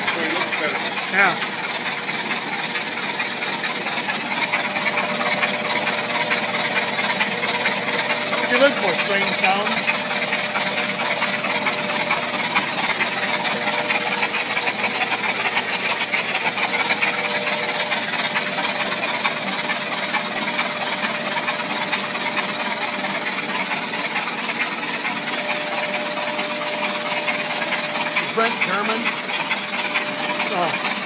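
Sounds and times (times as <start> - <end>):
engine valvetrain clatter: 0.0 - 31.0.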